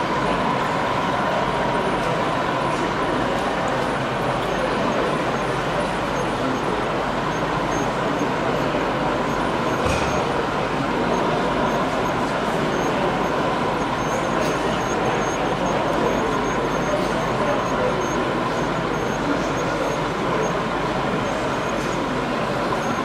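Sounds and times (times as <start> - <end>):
exhibition hall hum: 0.0 - 23.0.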